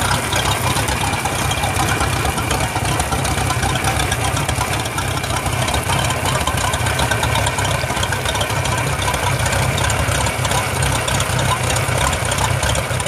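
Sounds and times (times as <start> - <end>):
boat engine running: 0.0 - 13.0
water spraying off propeller: 0.0 - 13.0.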